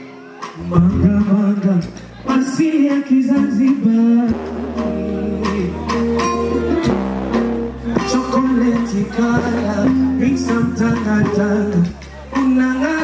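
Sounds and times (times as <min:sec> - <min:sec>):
amplified pop song with beat: 0:00.0 - 0:13.0
man singing: 0:00.4 - 0:13.0.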